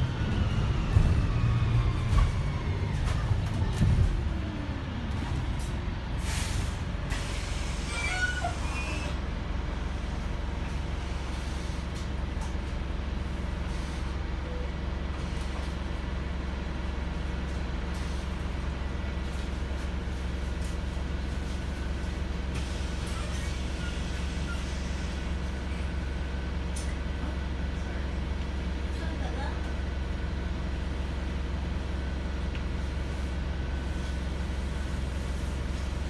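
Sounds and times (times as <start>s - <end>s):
diesel bus engine idling: 0.0s - 36.0s.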